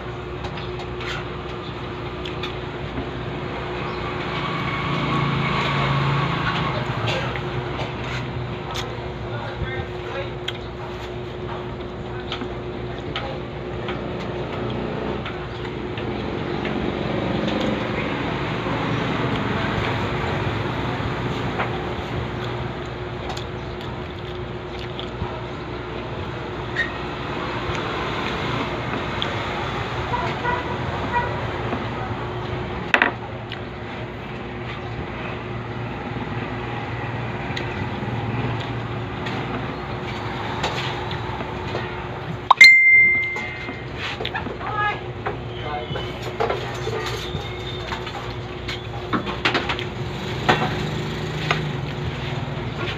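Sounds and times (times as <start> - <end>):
road traffic: 0.0 - 52.9.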